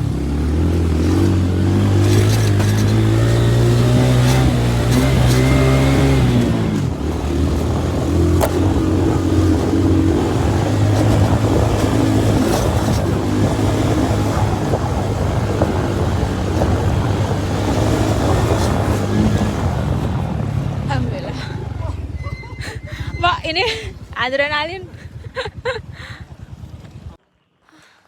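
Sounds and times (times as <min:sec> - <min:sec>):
rough rushing noise: 0:00.0 - 0:24.2
motorcycle engine under load: 0:00.0 - 0:27.2.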